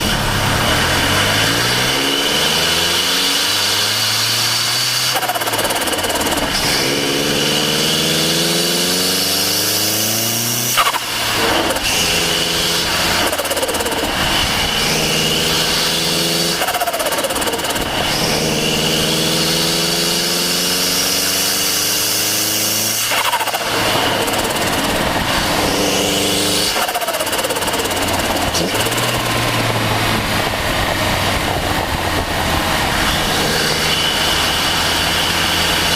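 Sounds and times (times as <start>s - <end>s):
car engine accelerating: 0.0s - 35.9s
turbo flutter and blow-off: 0.0s - 35.9s.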